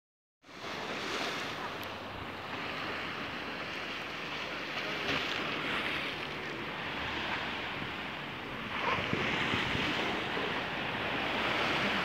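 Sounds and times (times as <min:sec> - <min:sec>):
waves against a sea wall: 0:00.4 - 0:12.0.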